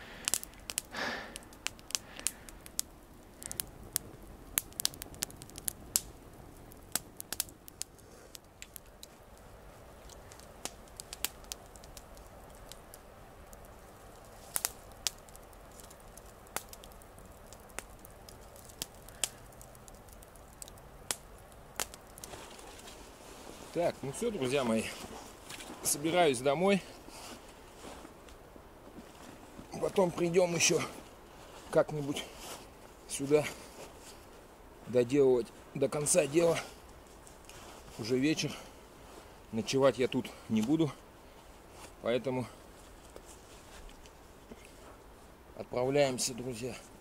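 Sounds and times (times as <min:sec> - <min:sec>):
campfire crackling and popping: 0:00.0 - 0:47.0.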